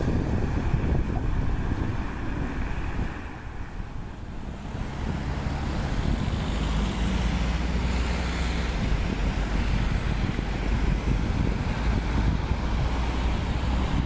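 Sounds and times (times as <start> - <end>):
road traffic hiss: 0.0 - 14.0
wind rumbling on microphone: 0.0 - 14.0.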